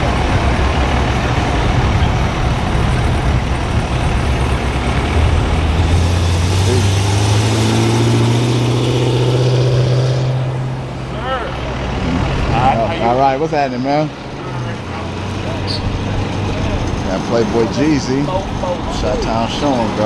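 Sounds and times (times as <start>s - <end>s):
loud vehicle engine running: 0.0s - 20.0s.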